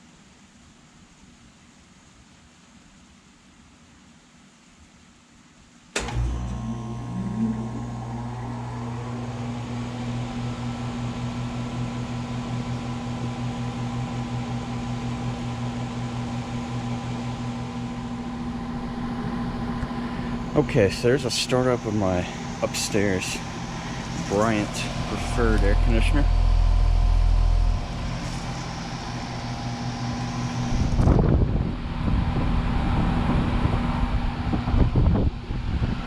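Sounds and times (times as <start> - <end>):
air conditioner unit humming: 5.7 - 36.0.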